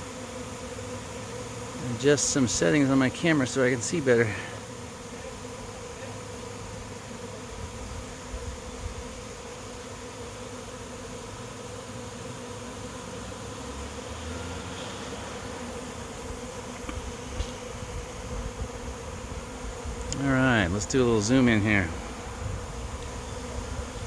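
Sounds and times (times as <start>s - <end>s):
bee swarm buzzing: 0.0s - 24.0s.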